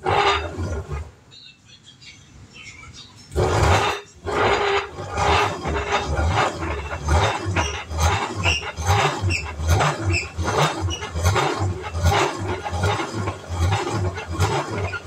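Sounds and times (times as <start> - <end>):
hand-cranked corn grinder grinding: 0.0 - 1.1, 3.4 - 15.0.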